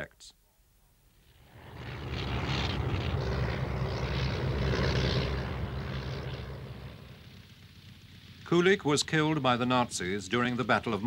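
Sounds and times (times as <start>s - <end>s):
propeller plane engine: 1.1s - 11.0s.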